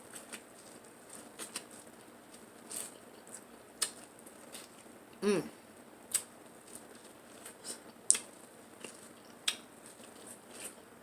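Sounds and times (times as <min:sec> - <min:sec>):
crab shells cracking and crunching: 0:00.0 - 0:04.9, 0:06.1 - 0:10.8.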